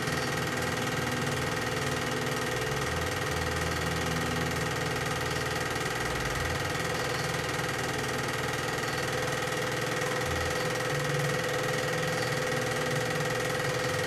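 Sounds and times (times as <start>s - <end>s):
film projector whirring: 0.0s - 14.0s.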